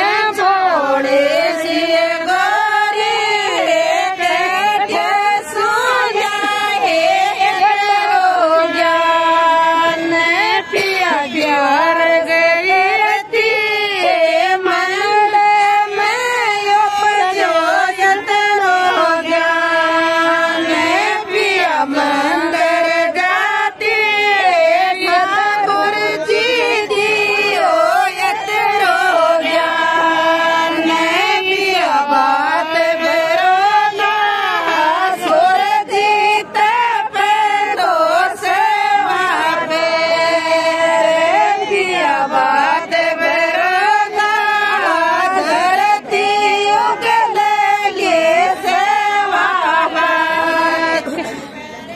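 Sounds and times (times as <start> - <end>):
group of women singing: 0.0 - 51.9.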